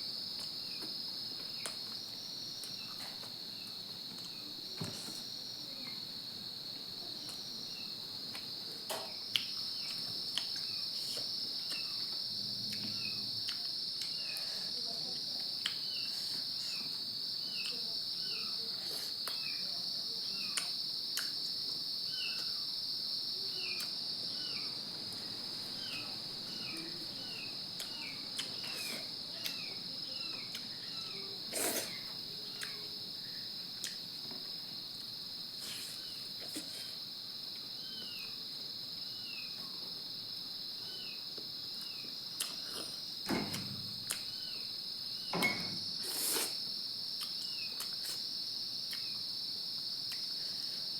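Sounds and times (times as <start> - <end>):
insect chorus chirring: 0.0 - 50.9.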